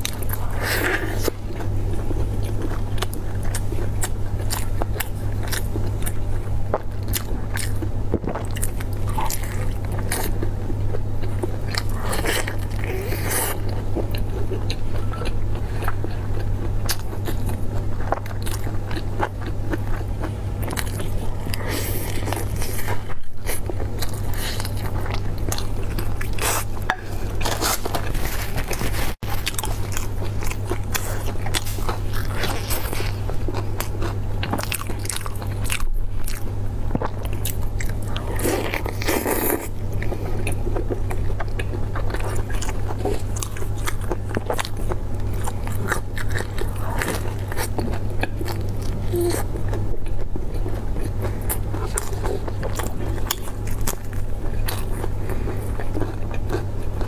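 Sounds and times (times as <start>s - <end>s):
crust crunching while chewing: 0.0s - 57.0s
wet chewing: 11.2s - 57.0s.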